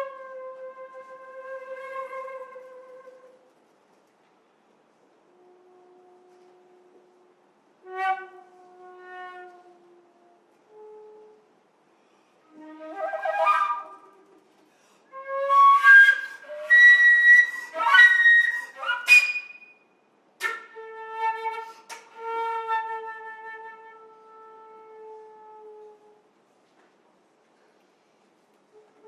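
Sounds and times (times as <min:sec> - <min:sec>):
solo flute playing: 0:00.0 - 0:03.5, 0:05.3 - 0:11.6, 0:12.4 - 0:26.3, 0:28.7 - 0:29.0.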